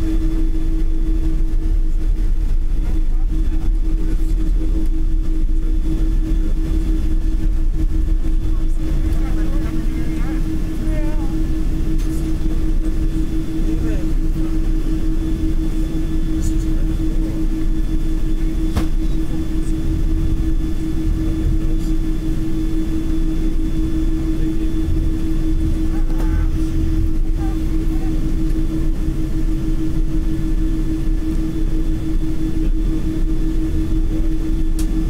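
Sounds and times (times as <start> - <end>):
airliner cabin rumble and hum: 0.0 - 35.0.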